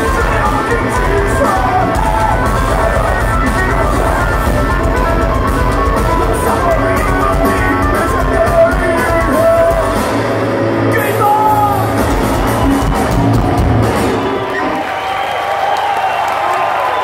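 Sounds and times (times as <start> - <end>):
live metal band playing loud: 0.0 - 14.7.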